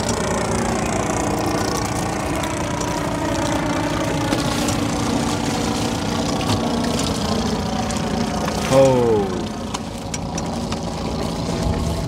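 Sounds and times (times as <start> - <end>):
small boat engine idling: 0.0 - 12.0.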